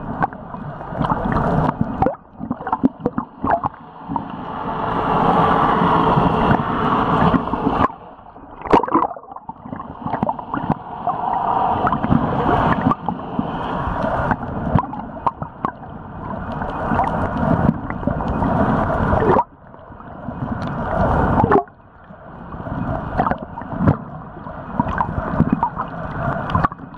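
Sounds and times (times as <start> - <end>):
water rushing and gurgling: 0.0 - 26.9.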